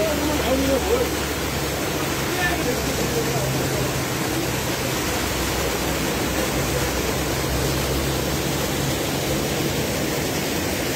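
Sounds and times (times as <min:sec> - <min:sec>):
spring water rushing: 0:00.0 - 0:10.9.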